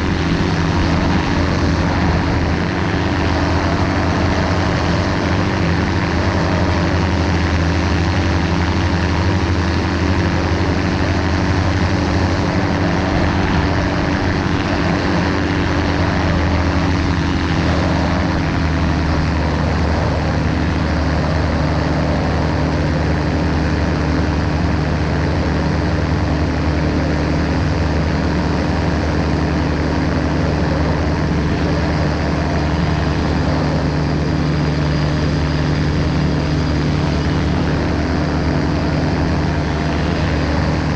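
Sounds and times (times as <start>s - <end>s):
propeller aircraft engine: 0.0s - 40.9s.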